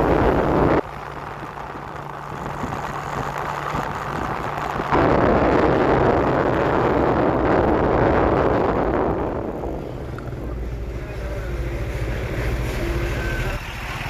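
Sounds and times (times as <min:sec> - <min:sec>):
vehicle engine running: 0:00.0 - 0:14.0
wind rumble on microphone: 0:00.0 - 0:14.0.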